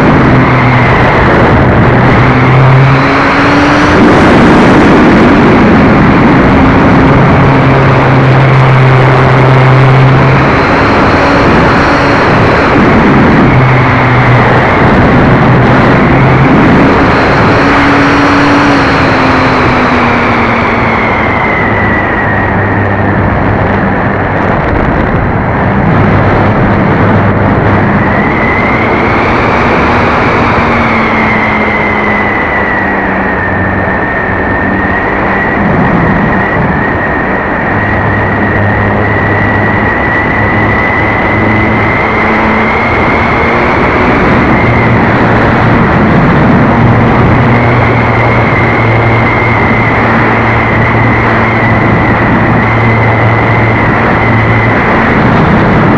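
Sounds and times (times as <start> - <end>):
heavy wind rush: 0.0 - 55.9.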